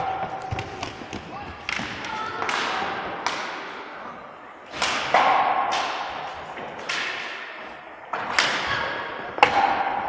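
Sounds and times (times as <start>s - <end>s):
hockey sticks striking ball: 0.0s - 3.9s, 4.7s - 10.0s.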